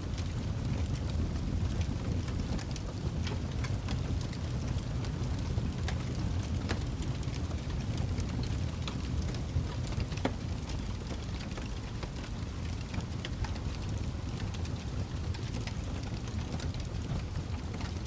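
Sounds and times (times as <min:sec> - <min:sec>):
fire pops and snaps: 0:00.1 - 0:18.0
wood fire crackling: 0:00.1 - 0:18.0.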